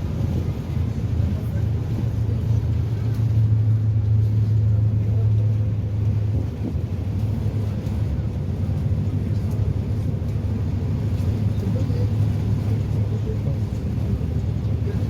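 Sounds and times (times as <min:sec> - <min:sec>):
boat engines droning: 0:00.0 - 0:15.0
water and hull noise: 0:00.0 - 0:15.0.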